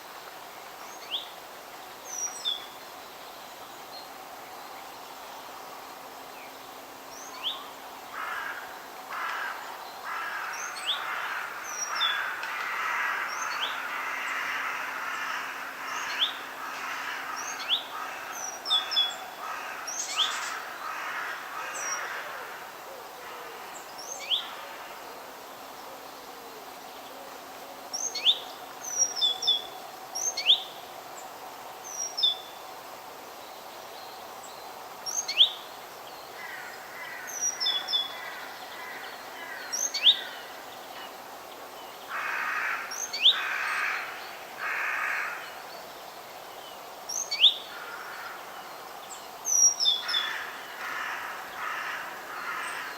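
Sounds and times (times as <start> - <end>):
steady background hiss: 0.0 - 52.9.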